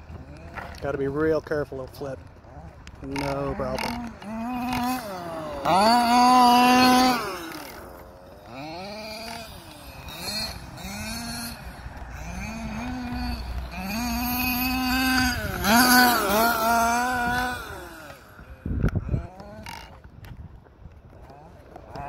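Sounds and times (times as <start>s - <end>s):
model truck engine revving: 2.5s - 20.1s, 21.2s - 22.0s.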